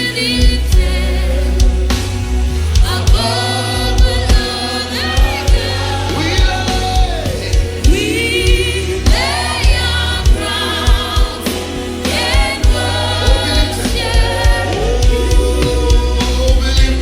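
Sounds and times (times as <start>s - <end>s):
bass line: 0.0s - 17.0s
choir singing gospel: 0.0s - 17.0s
drum beat: 2.8s - 11.5s, 12.1s - 17.0s.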